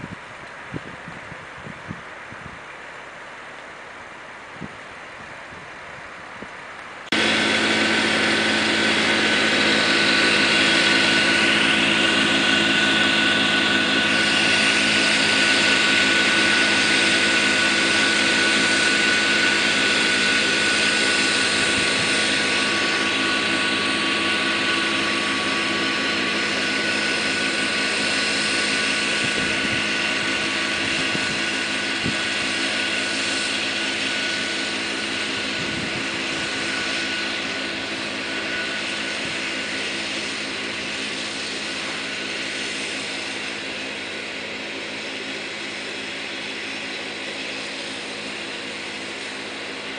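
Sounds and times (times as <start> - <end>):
snowblower high whine: 0.0 - 49.9
tractor diesel engine running: 0.0 - 49.9.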